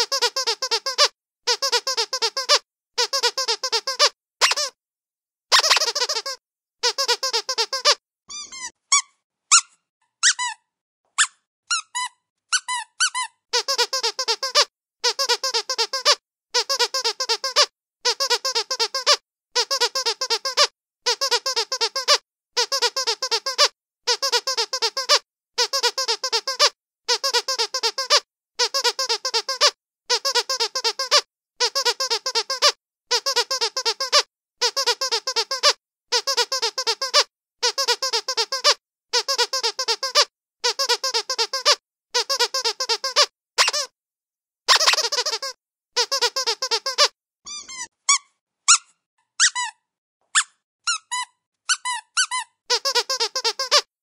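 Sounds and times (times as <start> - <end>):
squeaky dog toy: 0.0 - 4.8, 5.5 - 43.9, 44.7 - 53.9.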